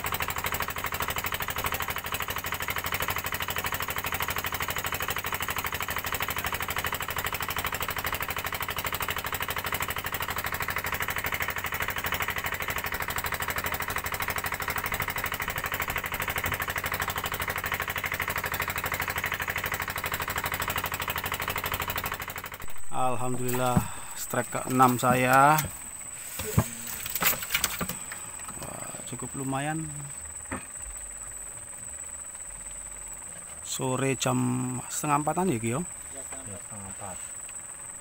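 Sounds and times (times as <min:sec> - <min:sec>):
boat engine chugging: 0:00.0 - 0:38.0.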